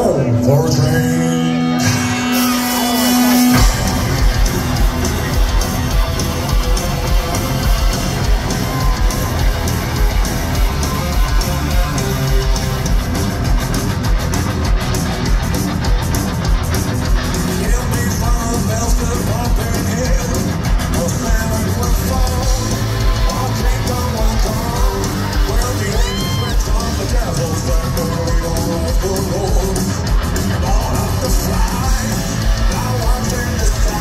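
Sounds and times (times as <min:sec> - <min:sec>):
heavy metal band playing: 0:00.0 - 0:34.0.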